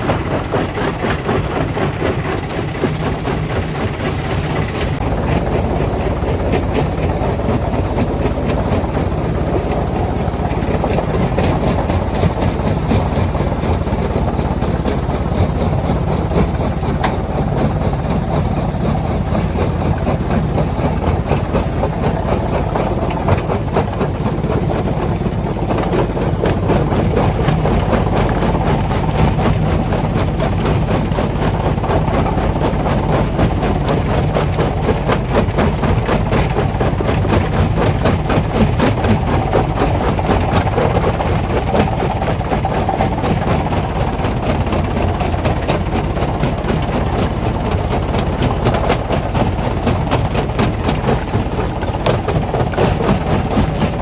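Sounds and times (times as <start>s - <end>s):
low engine drone: 0.0s - 54.0s.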